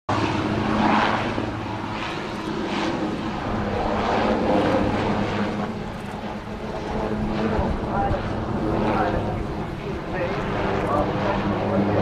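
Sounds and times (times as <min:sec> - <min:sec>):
helicopter rotor hum: 0:00.1 - 0:12.0.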